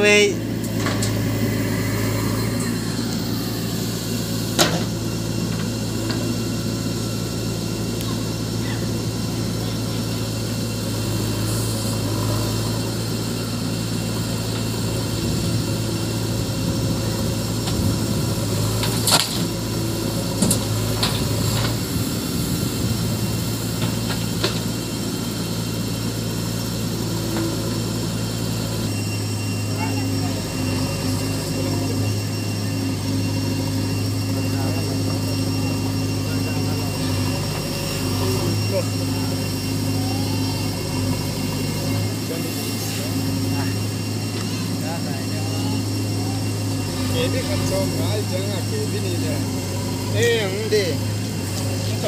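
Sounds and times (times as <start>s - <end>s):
diesel engine of backhoe loader: 0.0s - 52.0s.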